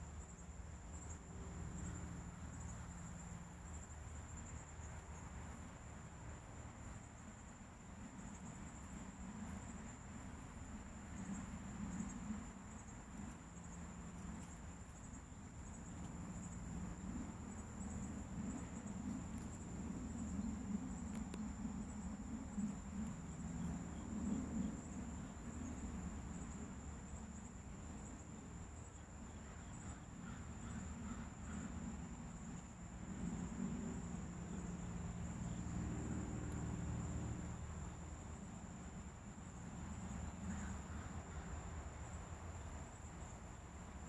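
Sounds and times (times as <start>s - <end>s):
insects buzzing: 0.0s - 44.0s.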